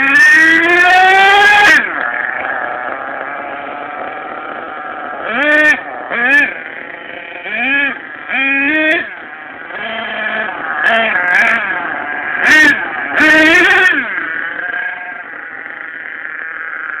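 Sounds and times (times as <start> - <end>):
vehicle motor revving: 0.0 - 17.0.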